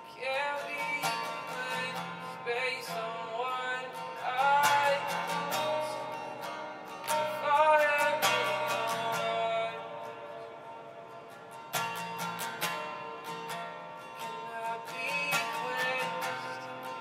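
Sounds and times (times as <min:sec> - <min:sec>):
person singing: 0:00.0 - 0:11.3, 0:14.1 - 0:17.0
acoustic guitar strumming: 0:00.0 - 0:17.0.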